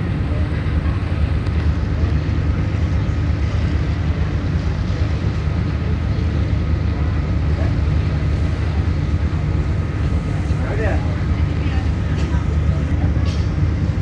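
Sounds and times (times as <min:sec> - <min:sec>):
boat engine running: 0:00.0 - 0:14.0
wind and water rushing: 0:00.0 - 0:14.0.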